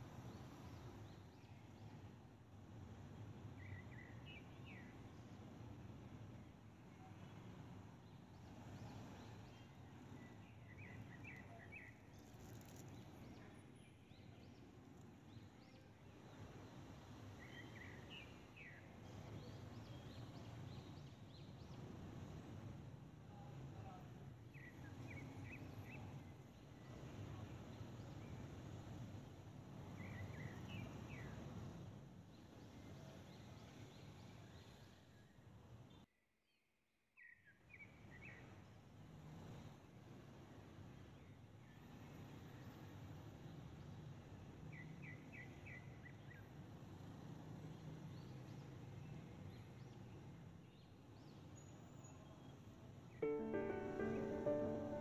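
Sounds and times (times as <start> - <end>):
low background noise: 0.0 - 36.1, 37.4 - 55.0.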